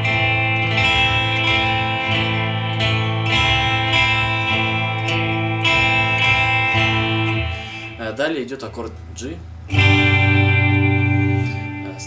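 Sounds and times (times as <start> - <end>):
guitar strumming chord: 0.0 - 12.0.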